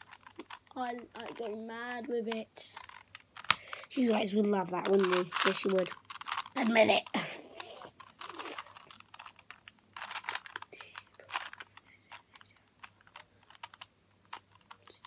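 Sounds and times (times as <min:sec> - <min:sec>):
puzzle cube clicking as turned: 0:00.0 - 0:15.0.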